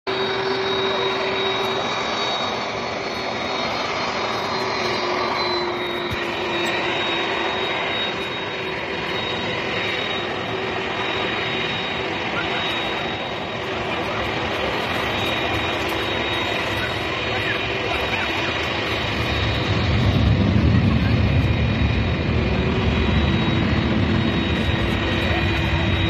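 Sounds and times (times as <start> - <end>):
high jet whine: 0.1 - 26.0
jet engines running: 0.1 - 26.0.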